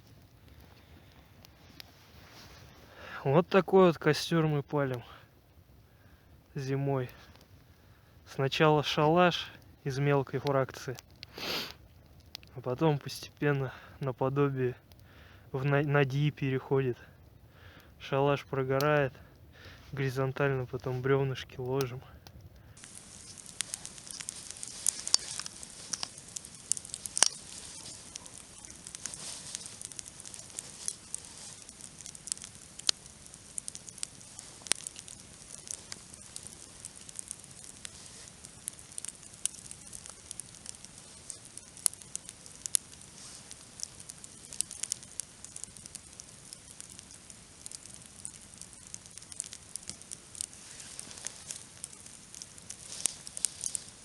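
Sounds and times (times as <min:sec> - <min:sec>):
campfire crackling and popping: 0:00.0 - 0:54.0
soft steady hiss: 0:00.0 - 0:54.0.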